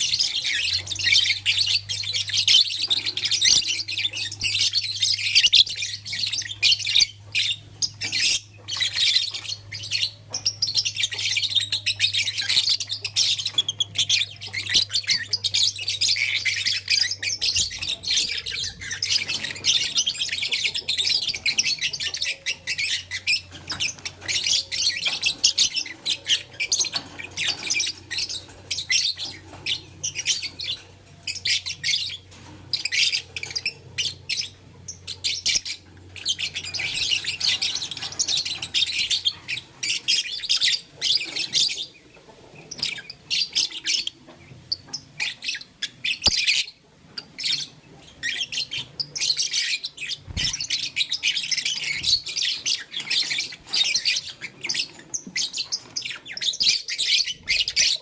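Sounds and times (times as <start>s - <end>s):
lovebirds chirping and chattering: 0.0s - 58.0s.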